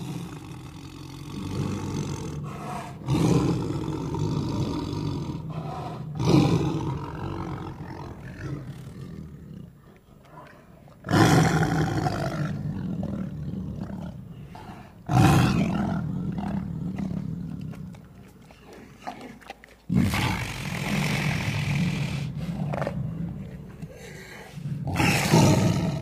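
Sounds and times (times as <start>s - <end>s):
tiger roaring: 0.0s - 18.1s, 19.0s - 26.0s.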